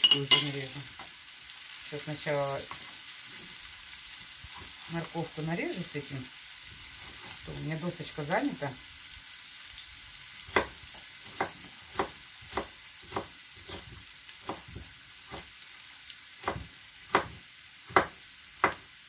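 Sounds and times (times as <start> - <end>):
onions sizzling in a pan: 0.0 - 19.0.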